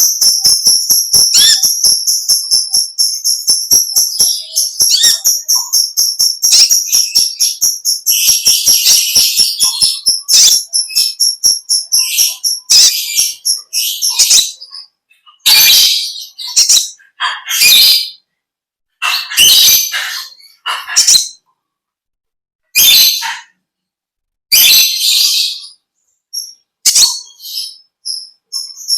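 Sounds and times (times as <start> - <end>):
bird twittering and chattering: 0.0 - 18.3, 19.0 - 21.5, 22.7 - 23.6, 24.5 - 28.9.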